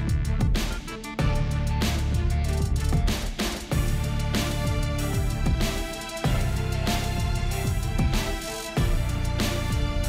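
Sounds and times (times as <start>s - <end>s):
heavy bass: 0.0s - 10.0s.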